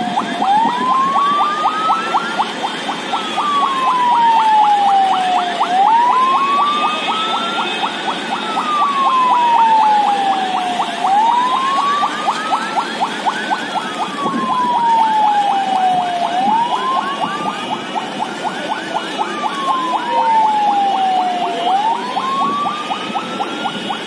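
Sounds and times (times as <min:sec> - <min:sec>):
fast warbling siren: 0:00.0 - 0:24.0
siren wailing: 0:00.0 - 0:24.0.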